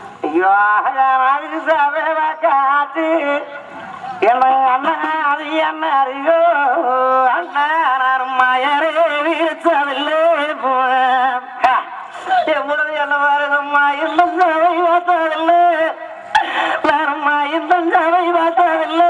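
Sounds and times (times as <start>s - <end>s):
person singing folk song: 0.0s - 19.0s.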